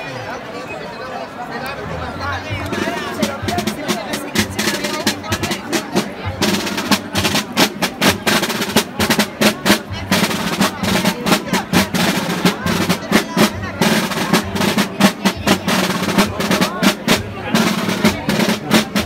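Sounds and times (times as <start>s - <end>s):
crowd talking: 0.0s - 19.0s
wooden marching drums beaten: 2.5s - 19.0s.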